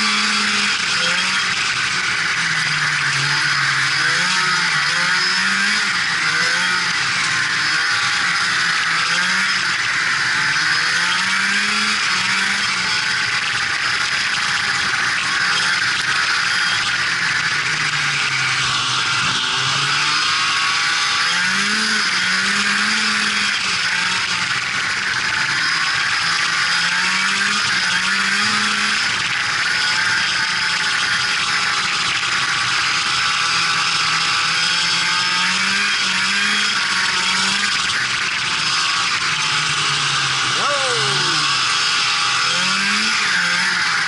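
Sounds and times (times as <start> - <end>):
snowmobile engine revving: 0.0 - 44.0.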